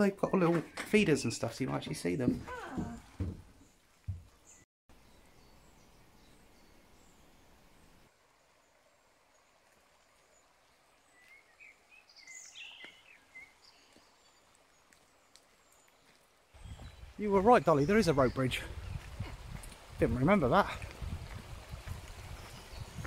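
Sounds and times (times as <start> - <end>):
birds chirping and twittering: 0.0 - 8.0, 10.3 - 20.7, 21.8 - 23.0.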